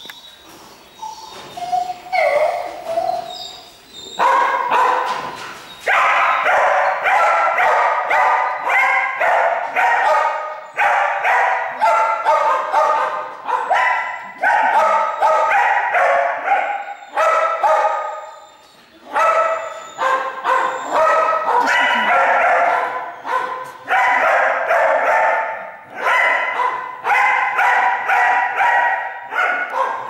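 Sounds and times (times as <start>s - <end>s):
dogs barking: 4.0s - 30.0s.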